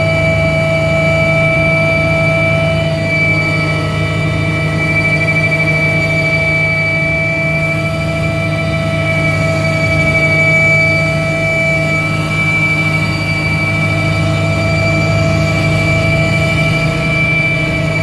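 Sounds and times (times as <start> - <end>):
helicopter cabin drone: 0.0 - 18.0
high-pitched whines: 0.0 - 18.0.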